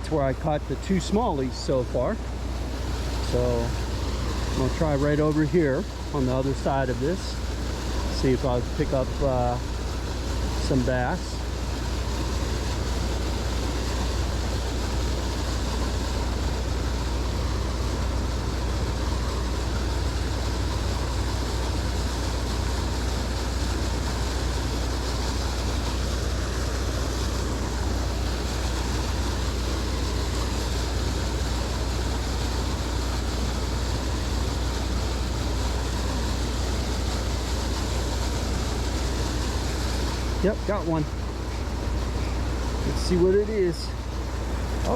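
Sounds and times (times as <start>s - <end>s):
water rushing over falls: 0.0s - 44.9s.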